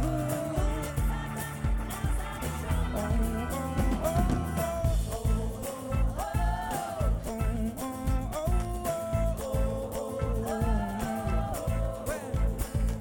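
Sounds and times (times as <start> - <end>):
female backing vocals singing: 0.0 - 13.0
steady beat: 0.0 - 13.0
strummed acoustic guitar: 0.0 - 13.0.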